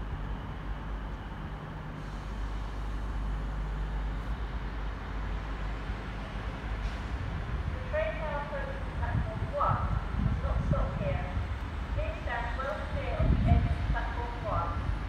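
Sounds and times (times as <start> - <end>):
train rumbling by: 0.0 - 15.0.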